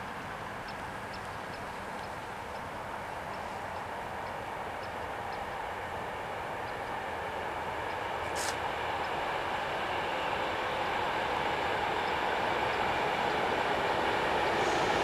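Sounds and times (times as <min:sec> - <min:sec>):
electric train rumble: 0:00.1 - 0:15.0.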